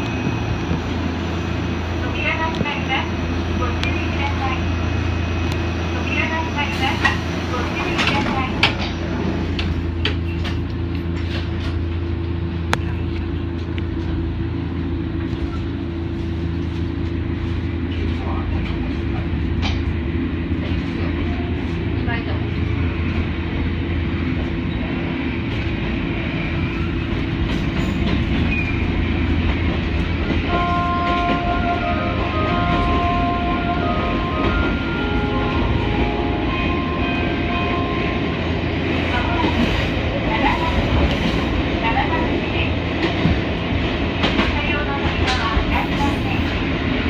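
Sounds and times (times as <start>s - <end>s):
train interior running hum: 0.0s - 47.0s.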